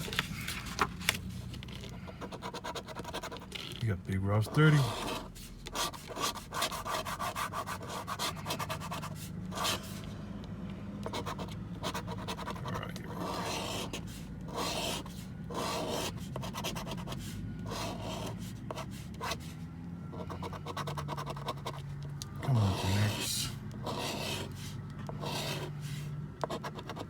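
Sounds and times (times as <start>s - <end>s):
scratching lottery ticket: 0.0s - 10.0s, 11.0s - 27.0s.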